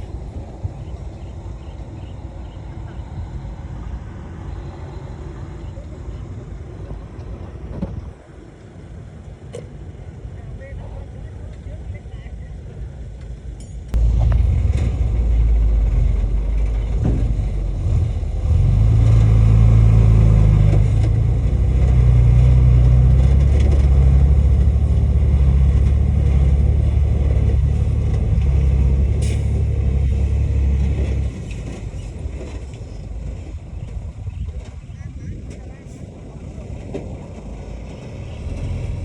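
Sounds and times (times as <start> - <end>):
heavy diesel machine engine: 0.0 - 39.0.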